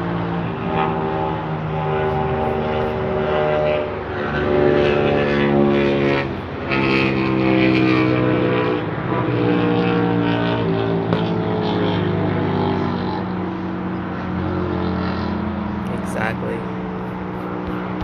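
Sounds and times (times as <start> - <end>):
loud engine droning: 0.0 - 18.0.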